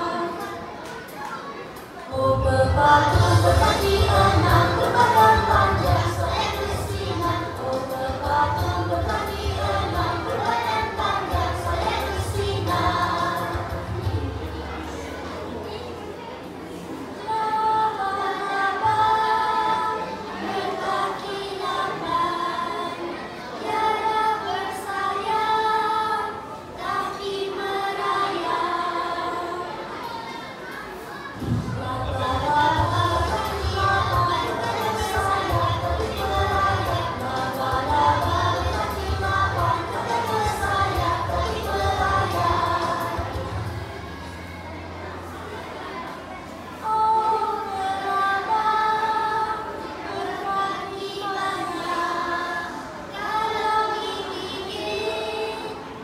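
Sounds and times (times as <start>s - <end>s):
children singing: 0.0s - 1.3s, 2.1s - 16.1s, 16.8s - 56.0s.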